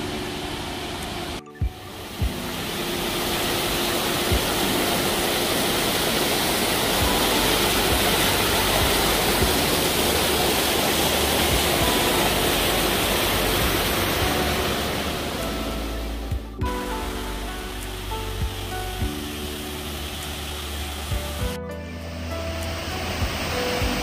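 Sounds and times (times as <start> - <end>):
loud rushing noise: 0.0 - 21.6
faint music: 0.0 - 24.0.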